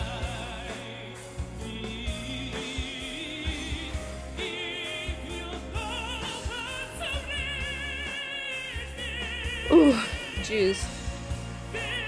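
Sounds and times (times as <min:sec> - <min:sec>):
man singing ballad: 0:00.0 - 0:12.0.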